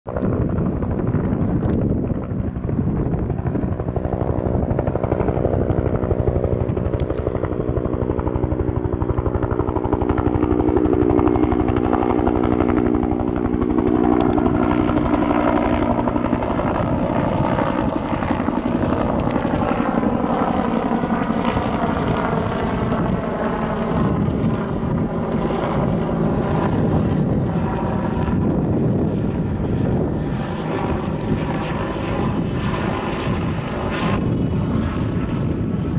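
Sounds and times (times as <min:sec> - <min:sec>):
helicopter flying past: 0:00.1 - 0:35.9.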